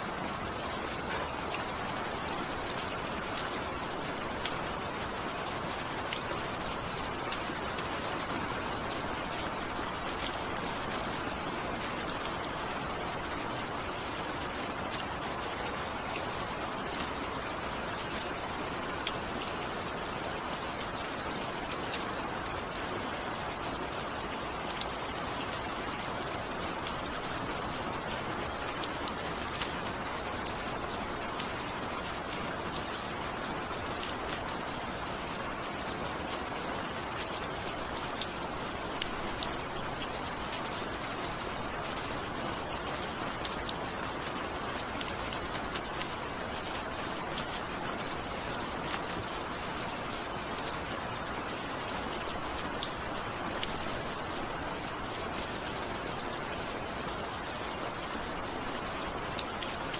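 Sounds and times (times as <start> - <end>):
rain drops on hard surface: 0.0 - 59.9
steady rain hiss: 0.0 - 59.9.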